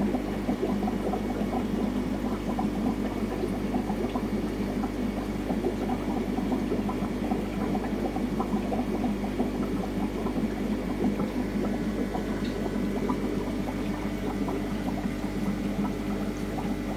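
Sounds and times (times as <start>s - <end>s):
aquarium water bubbling and trickling: 0.0s - 16.9s.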